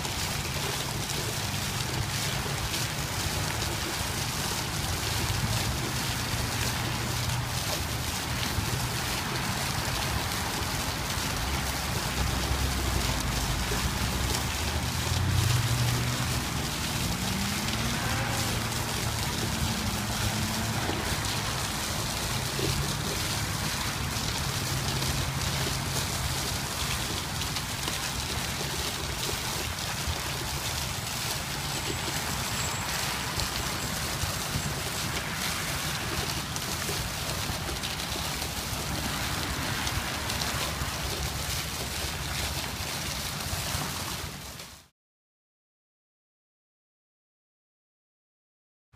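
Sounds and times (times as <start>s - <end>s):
fountain water splashing: 0.0s - 44.9s.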